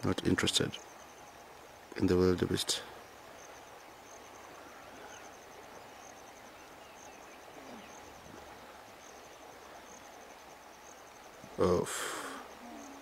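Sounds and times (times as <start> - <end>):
faint chirps: 0.0 - 13.0
insect chirping trills: 0.0 - 13.0
steady soft hiss: 0.0 - 13.0.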